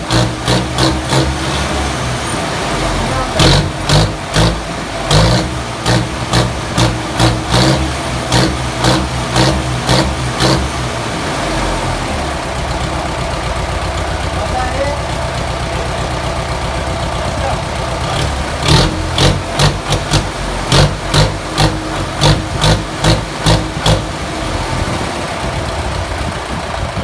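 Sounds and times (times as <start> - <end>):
engine revving and idling: 0.0 - 27.0.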